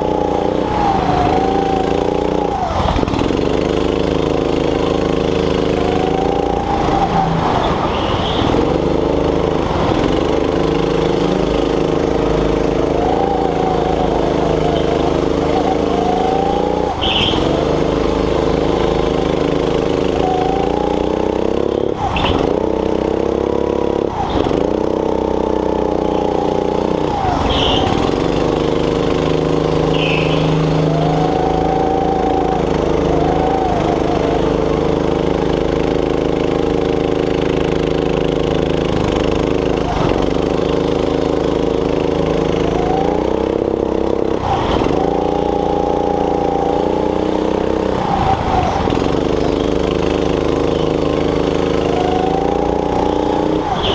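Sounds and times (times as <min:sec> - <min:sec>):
go-kart engine revving: 0:00.0 - 0:53.9.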